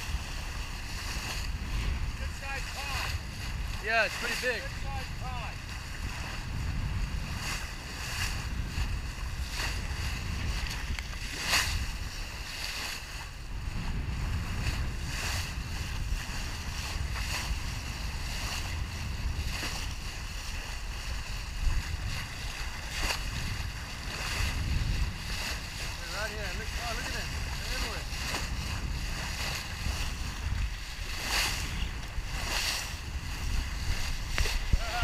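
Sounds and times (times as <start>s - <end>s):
water splashes: 0.0s - 13.4s, 14.1s - 35.0s
water rushing along hull: 0.0s - 35.0s
wind buffeting microphone: 0.0s - 35.0s.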